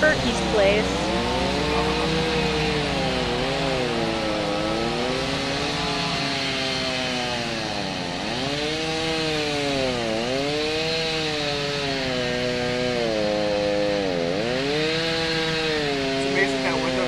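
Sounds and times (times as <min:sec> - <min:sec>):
small engine running fast: 0:00.0 - 0:17.0.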